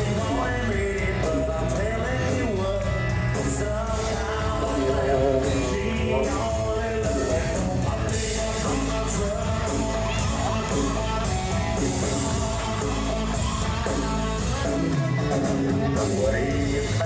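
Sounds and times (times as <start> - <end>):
country-rock band playing: 0.0 - 17.0.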